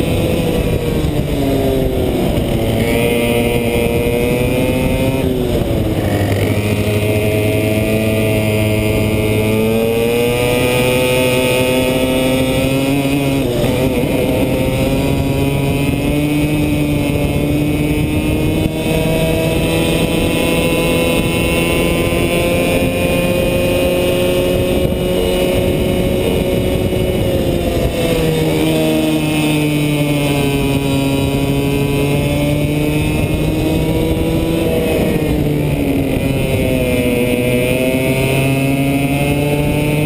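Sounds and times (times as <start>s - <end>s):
go-kart engine accelerating: 0.0s - 40.0s.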